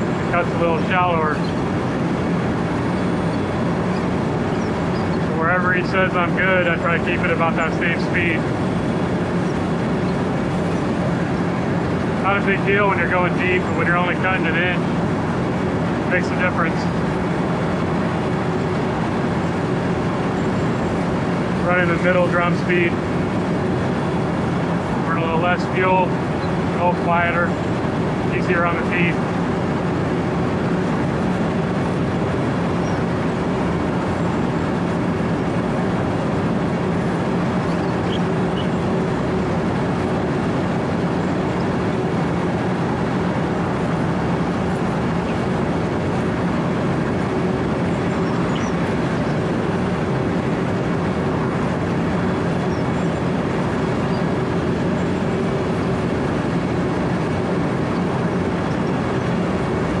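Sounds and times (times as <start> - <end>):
diesel engine humming: 0.0 - 60.0.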